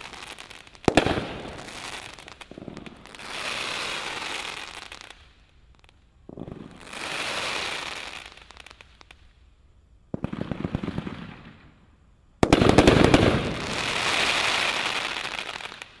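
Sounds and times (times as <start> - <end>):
firework hissing sizzle: 0.0 - 9.4, 12.4 - 16.0
firework cake crackling volleys: 0.0 - 9.5, 10.2 - 16.0.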